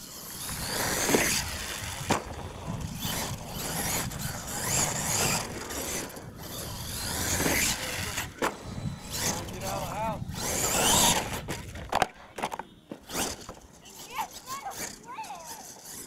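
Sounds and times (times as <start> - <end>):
tires scrabbling on dirt: 0.0 - 16.0
toy truck drivetrain whining: 0.0 - 16.0.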